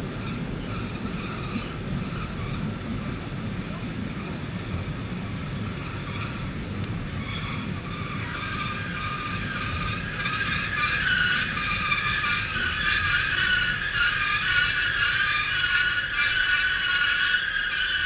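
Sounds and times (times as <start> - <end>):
train wheels squealing: 0.0 - 2.8, 5.7 - 18.0
train rolling rumble: 0.0 - 18.0.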